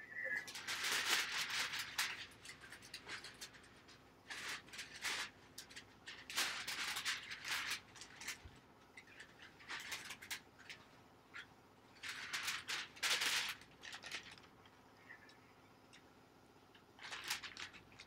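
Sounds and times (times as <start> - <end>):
sheets rustling and crinkling: 0.2 - 14.8, 16.8 - 18.0.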